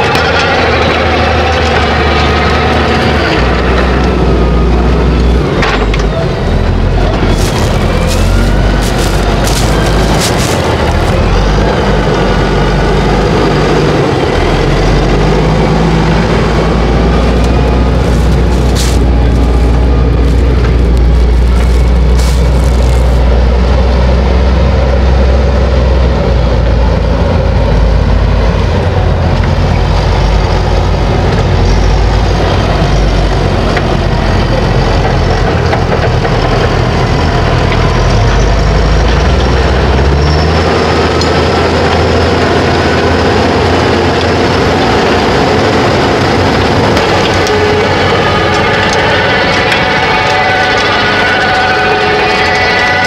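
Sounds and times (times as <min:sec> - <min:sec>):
tractor diesel engine rumbling: 0:00.0 - 0:53.0.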